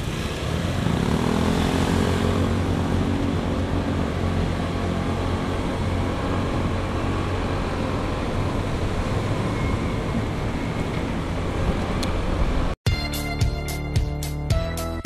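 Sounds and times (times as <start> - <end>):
motorcycle engine drone: 0.0 - 12.8
wind and road noise: 0.0 - 12.8.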